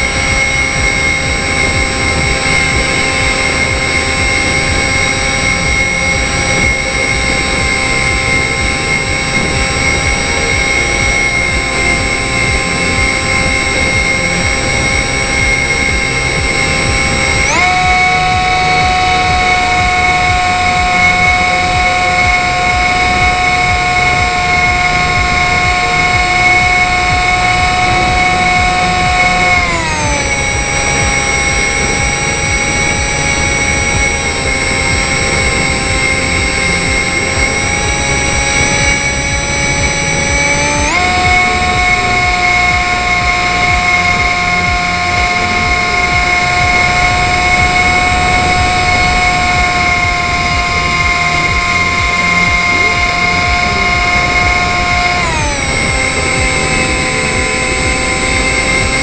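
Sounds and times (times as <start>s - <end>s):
electric motor and propeller whining: 0.0s - 59.0s.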